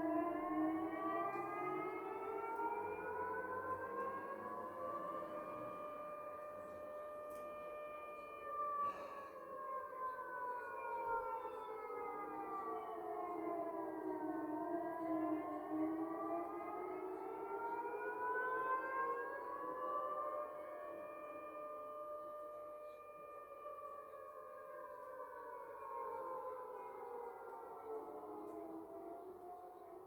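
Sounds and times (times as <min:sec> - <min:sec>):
air-raid siren wailing: 0:00.0 - 0:30.0.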